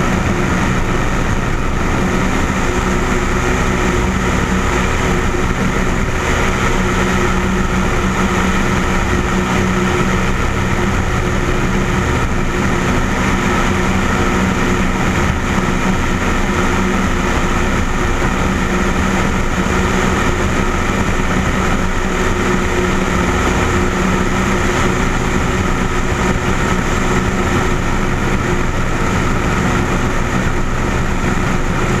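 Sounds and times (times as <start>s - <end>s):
light aircraft engine droning: 0.0s - 32.0s.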